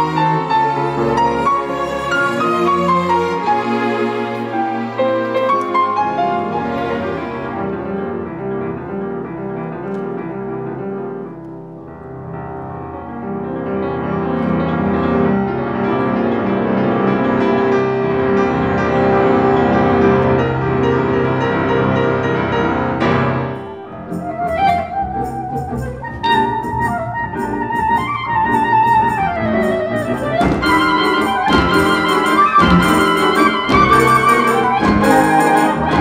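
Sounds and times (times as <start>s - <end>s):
clarinet with orchestra: 0.0s - 11.8s, 13.2s - 36.0s
piano with orchestra: 0.0s - 36.0s.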